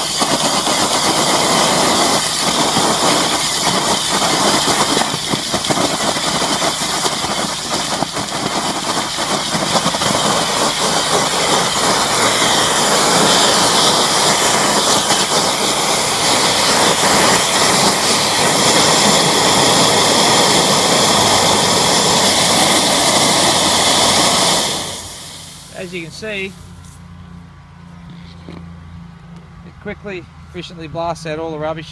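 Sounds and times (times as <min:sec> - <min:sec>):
high-pressure water spray hissing: 0:00.0 - 0:27.0
engine running: 0:00.0 - 0:31.9.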